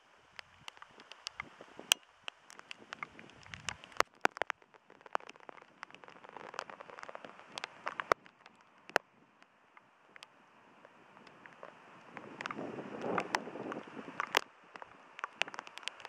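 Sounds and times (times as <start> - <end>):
hiss of falling precipitation: 0.0 - 16.0
hail pellets ticking: 0.3 - 16.0.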